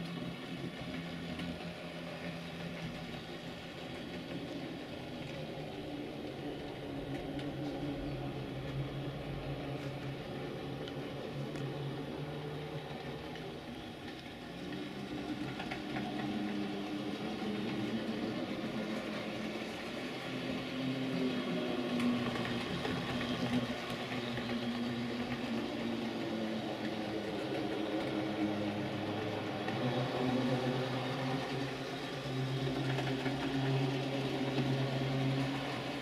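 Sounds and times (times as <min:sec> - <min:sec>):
model train humming: 0:00.0 - 0:36.0.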